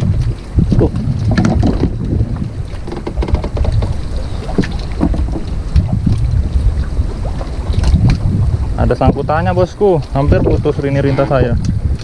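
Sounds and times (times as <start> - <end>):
water lapping against boat: 0.0 - 12.0
wind buffeting microphone: 0.0 - 12.0.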